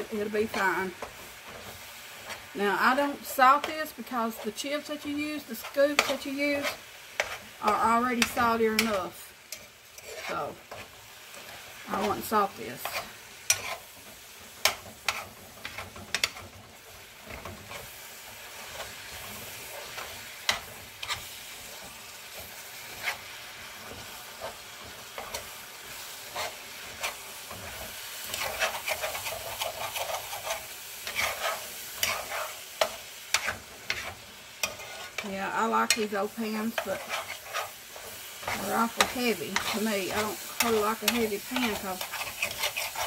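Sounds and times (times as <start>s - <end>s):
meat sizzling in a skillet: 0.0s - 43.0s
utensil scraping a pan: 0.0s - 43.0s.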